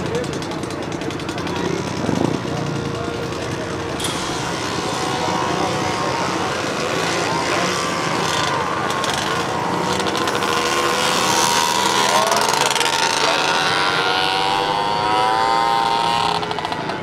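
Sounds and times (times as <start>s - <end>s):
motorcycles racing at high revs: 0.0s - 17.0s.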